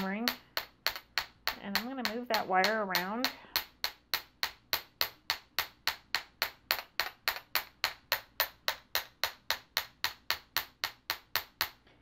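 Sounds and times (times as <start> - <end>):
hammer tapping wire on steel: 0.0 - 11.8.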